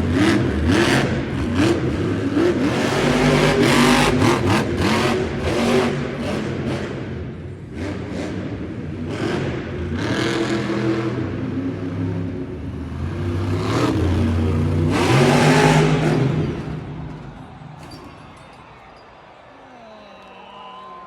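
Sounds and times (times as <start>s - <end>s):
truck engine revving: 0.0s - 17.8s.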